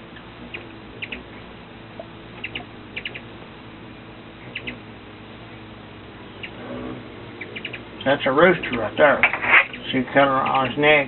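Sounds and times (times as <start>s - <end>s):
hummingbird chip calls: 0.0s - 11.0s.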